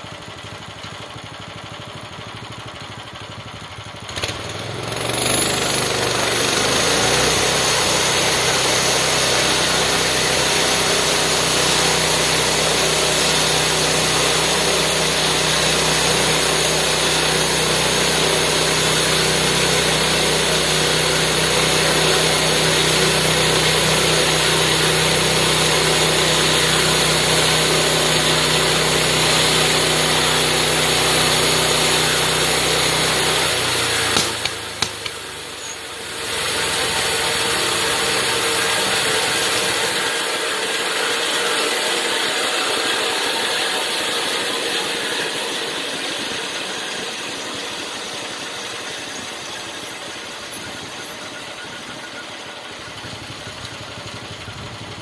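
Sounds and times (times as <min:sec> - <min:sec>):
small engine revving: 0:00.0 - 0:55.0
band saw cutting log: 0:04.2 - 0:54.3.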